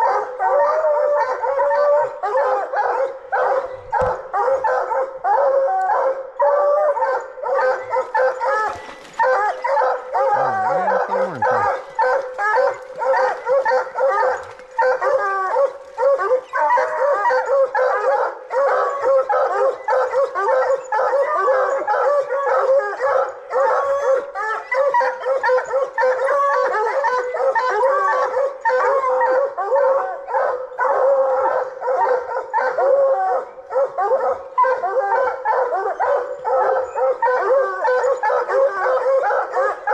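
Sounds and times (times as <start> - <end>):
hounds barking and bawling: 0.0 - 39.9.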